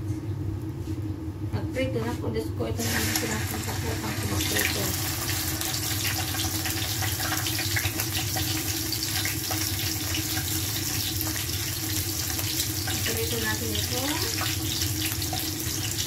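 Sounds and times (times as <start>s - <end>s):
fish sizzling in oil: 2.8s - 16.0s.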